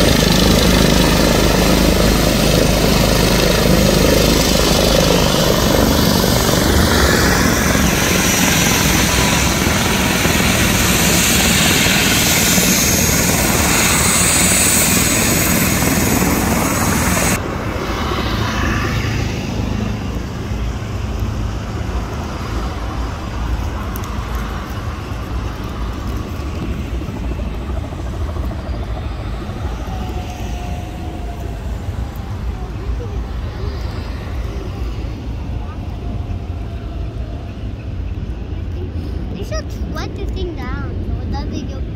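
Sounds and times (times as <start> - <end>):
helicopter rotor turning: 0.0 - 41.9
helicopter turbine whining: 0.0 - 41.9.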